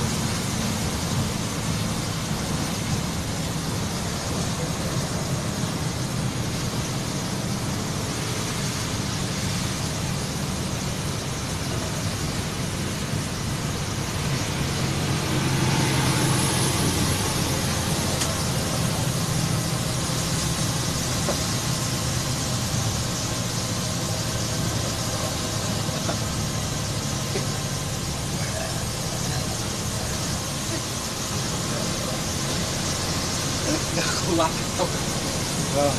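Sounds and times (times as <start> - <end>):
bus diesel engine running: 0.0 - 35.9
tyres hissing on wet road: 0.0 - 35.9.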